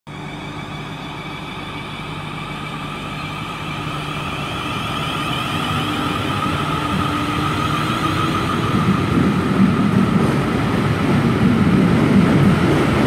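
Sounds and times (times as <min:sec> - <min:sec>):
held whining tones: 0:00.1 - 0:11.4
train mechanical hum: 0:00.1 - 0:13.0.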